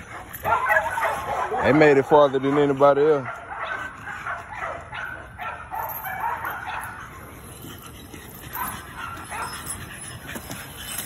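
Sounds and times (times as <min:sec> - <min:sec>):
dogs yipping and whimpering: 0:00.0 - 0:11.0.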